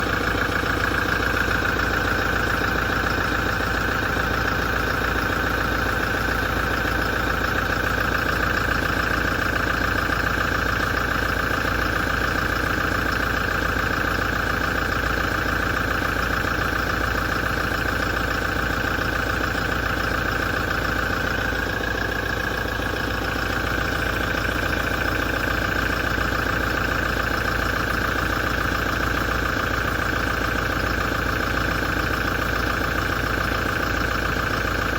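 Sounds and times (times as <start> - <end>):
diesel engine idling with knocking: 0.0 - 34.9.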